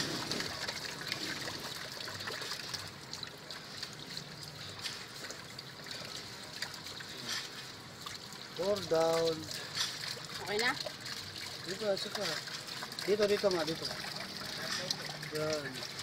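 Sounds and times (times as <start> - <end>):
water from hose running: 0.0 - 16.0
water trickling through radiator: 0.0 - 16.0.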